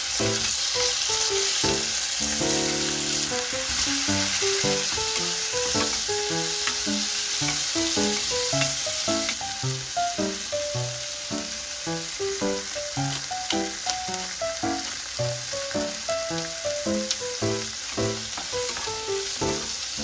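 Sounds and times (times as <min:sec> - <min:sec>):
food sizzling in hot oil: 0:00.0 - 0:20.0
light background music: 0:00.0 - 0:20.0.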